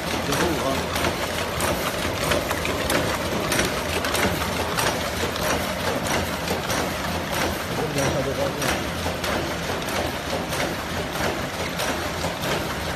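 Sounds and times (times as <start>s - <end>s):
machine clatter: 0.0s - 12.9s.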